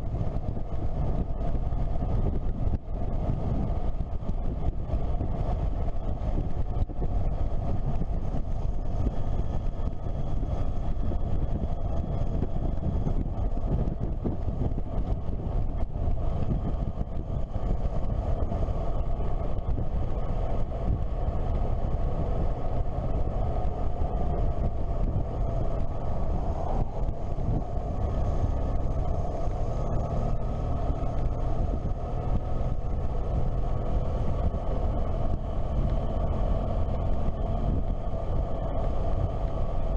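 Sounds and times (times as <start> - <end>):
motorcycle engine cruising: 0.0 - 39.9
wind and road rumble: 0.0 - 39.9.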